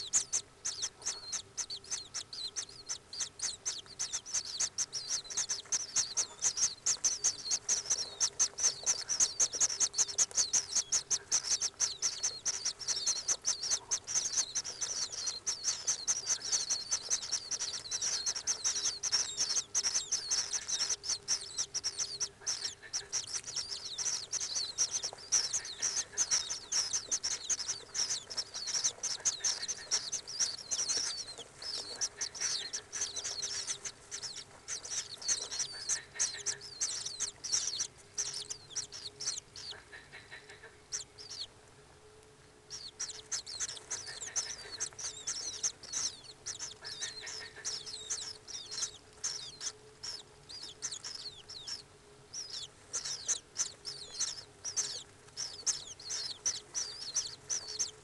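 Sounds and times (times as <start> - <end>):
nestlings chirping begging calls: 0.0 - 41.6, 42.7 - 58.0
faint steady hum: 0.0 - 58.0.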